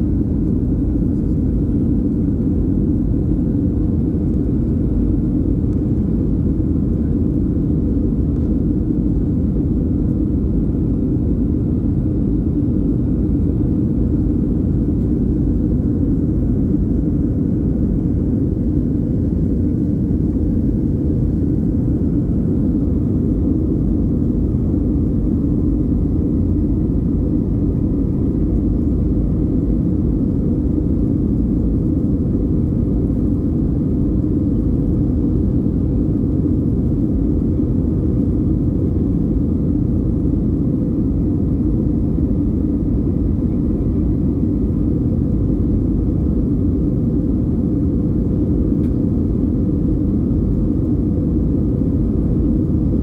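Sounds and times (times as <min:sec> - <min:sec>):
low airplane cabin noise: 0:00.0 - 0:53.0.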